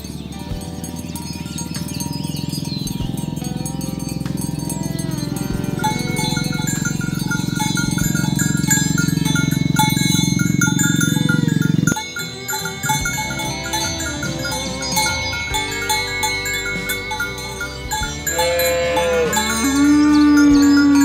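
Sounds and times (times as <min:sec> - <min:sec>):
cattle lowing faintly: 0:00.0 - 0:21.0
chime-like music melody: 0:00.0 - 0:21.0
heavy low music layer: 0:00.0 - 0:21.0.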